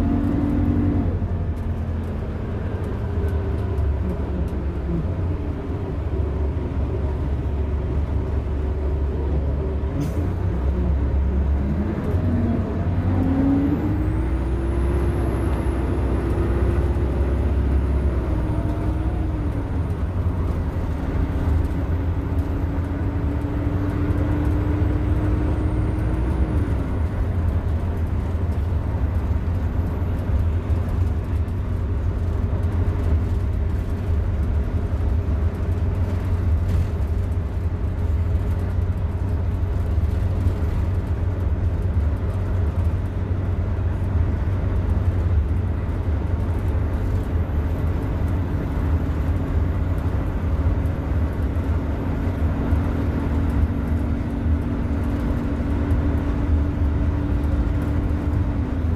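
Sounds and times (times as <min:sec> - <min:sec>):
bus engine rumble: 0:00.0 - 0:58.9
road noise: 0:00.0 - 0:58.9.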